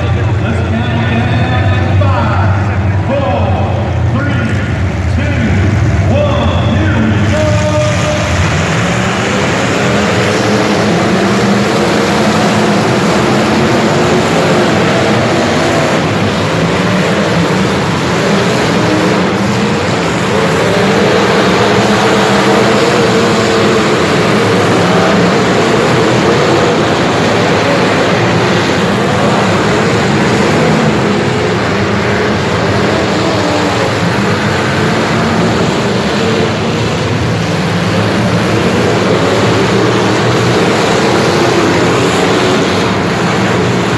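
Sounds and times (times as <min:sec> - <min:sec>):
loud rushing noise: 0:00.0 - 0:43.9
vehicle engine running: 0:00.0 - 0:43.9.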